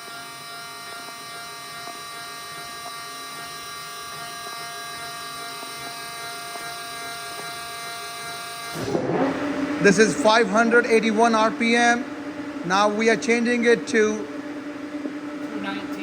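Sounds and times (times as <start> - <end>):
lathe running with steady whine: 0.0 - 16.0.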